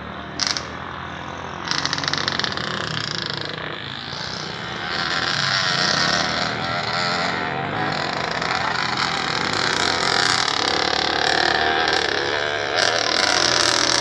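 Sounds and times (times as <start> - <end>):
dirt bike engines: 0.0 - 14.0.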